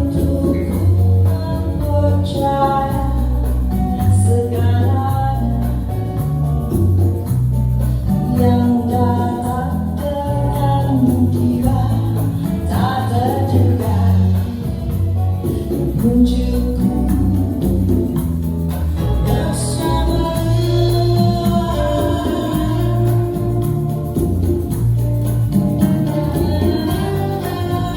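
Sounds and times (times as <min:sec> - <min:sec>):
person singing: 0:00.0 - 0:06.3, 0:08.1 - 0:18.0, 0:18.7 - 0:24.6, 0:26.0 - 0:27.9
electric upright bass line: 0:00.0 - 0:27.9.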